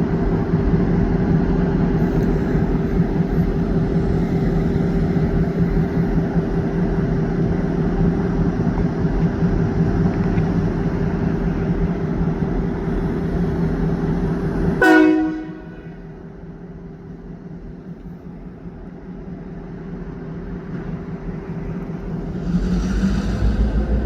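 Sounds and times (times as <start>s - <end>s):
diesel locomotive engines rumbling: 0.0s - 24.0s.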